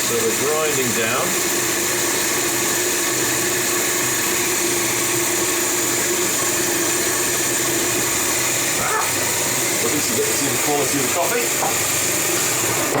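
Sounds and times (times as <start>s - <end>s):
coffee grinder grinding beans: 0.0s - 13.0s.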